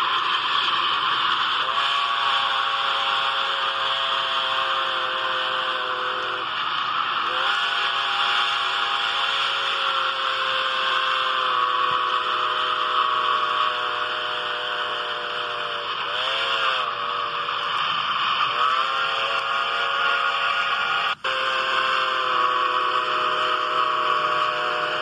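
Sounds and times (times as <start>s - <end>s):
steam locomotive chime whistle: 0.0s - 25.0s.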